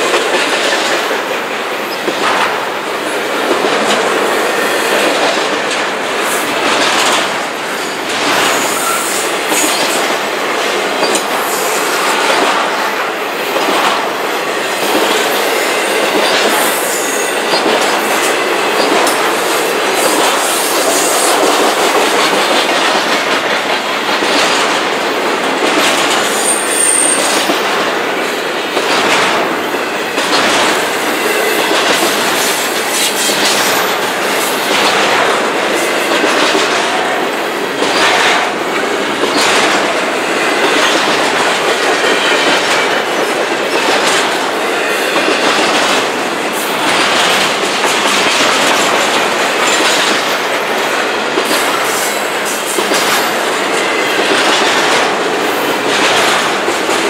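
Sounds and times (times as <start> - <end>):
freight train wheels rumbling on rail: 0.0 - 57.0
wheels clacking over rail joints: 0.0 - 57.0.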